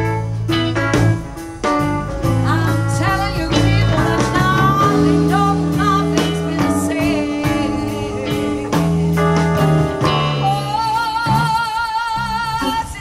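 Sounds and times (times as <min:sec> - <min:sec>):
steady beat: 0:00.0 - 0:10.7
electric bass guitar: 0:00.0 - 0:13.0
woman singing: 0:02.2 - 0:13.0.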